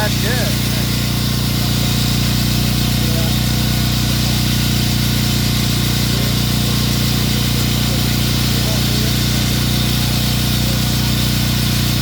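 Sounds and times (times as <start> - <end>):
construction machinery humming: 0.0 - 12.0.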